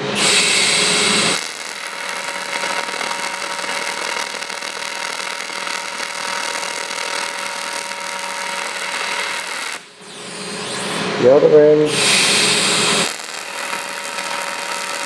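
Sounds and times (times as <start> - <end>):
welding arc hissing: 0.0 - 11.1, 12.0 - 15.0.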